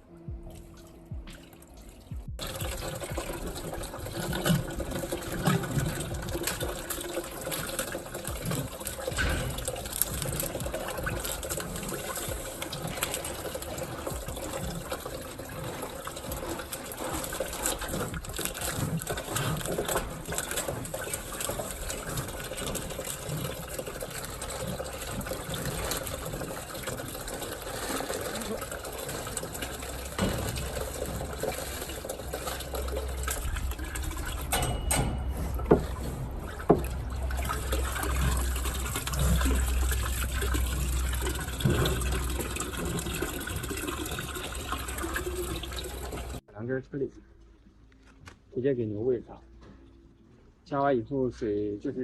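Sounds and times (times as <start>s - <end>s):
water running into container: 0.5s - 46.4s.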